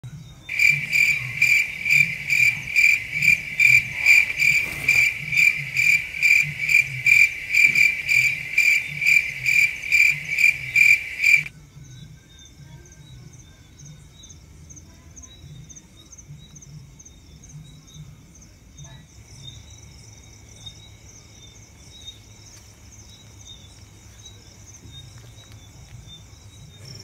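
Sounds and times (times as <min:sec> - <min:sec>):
chorus of night insects: 0:00.0 - 0:27.0
cricket chirping: 0:00.0 - 0:27.0.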